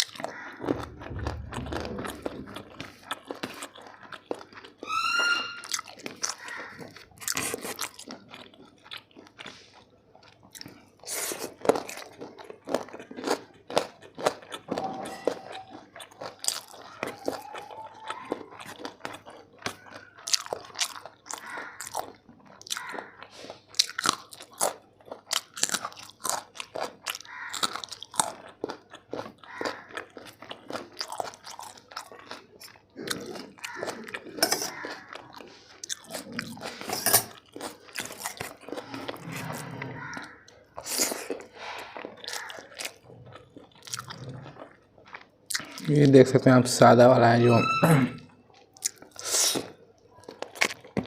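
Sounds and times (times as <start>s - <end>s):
person chewing food: 0.0s - 47.5s, 48.3s - 51.0s.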